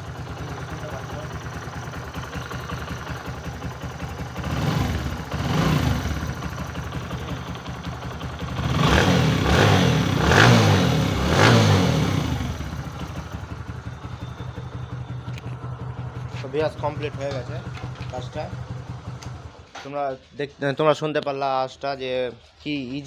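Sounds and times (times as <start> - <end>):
motorcycle engine idling and revving: 0.0 - 19.8.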